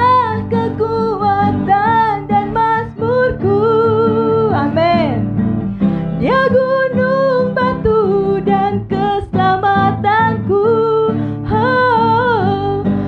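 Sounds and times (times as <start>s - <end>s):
acoustic guitar: 0.0s - 13.0s
woman singing into a microphone: 0.0s - 13.0s.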